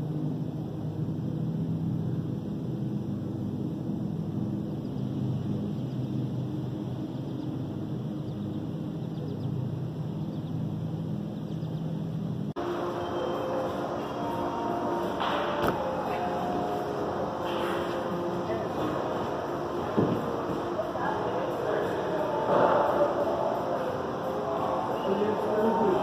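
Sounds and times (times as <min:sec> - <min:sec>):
low mechanical drone: 0:00.0 - 0:26.0.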